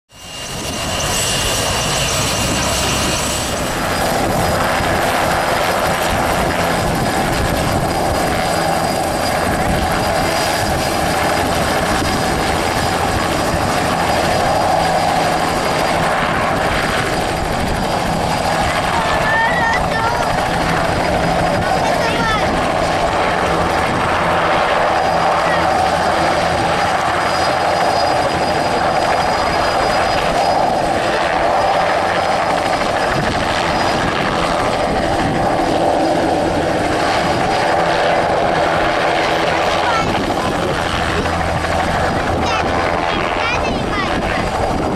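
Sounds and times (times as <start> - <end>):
helicopter turbine and rotor: 0.1 - 44.9.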